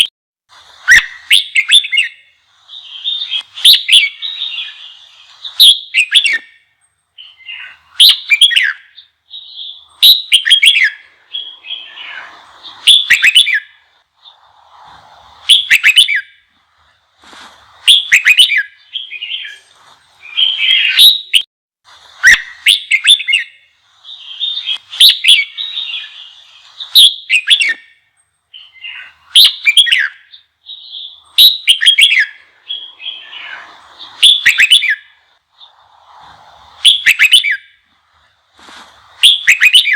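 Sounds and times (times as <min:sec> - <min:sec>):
bird singing short loud phrases: 0:00.8 - 0:16.9, 0:17.7 - 0:21.5, 0:22.2 - 0:37.8, 0:39.2 - 0:39.9.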